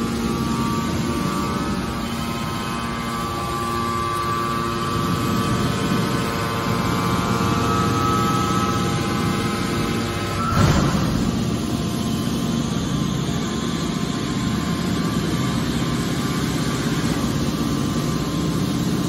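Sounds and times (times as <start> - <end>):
baler motor hum and whine: 0.0 - 19.0.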